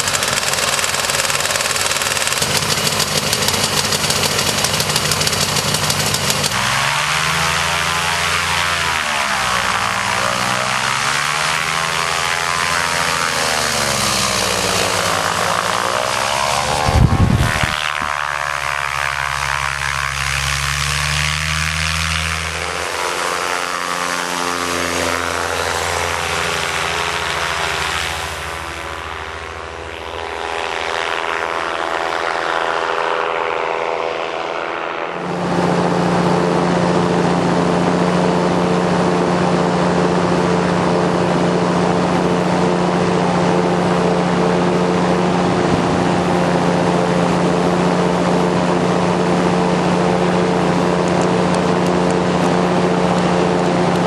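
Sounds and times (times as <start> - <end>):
propeller engine running: 0.0 - 54.0.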